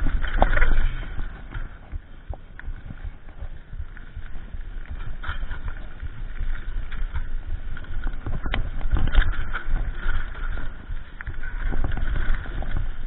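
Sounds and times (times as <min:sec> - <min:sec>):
bike rattling clicks and knocks: 0:00.0 - 0:13.0
bike tyres rumbling on dirt: 0:00.0 - 0:13.0.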